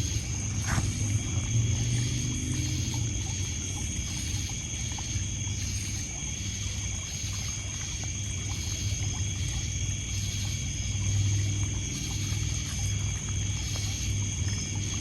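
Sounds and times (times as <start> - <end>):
crickets and insects trilling: 0.0 - 15.0
pulsing insect call: 0.0 - 15.0
water lapping on pebbles: 0.0 - 15.0.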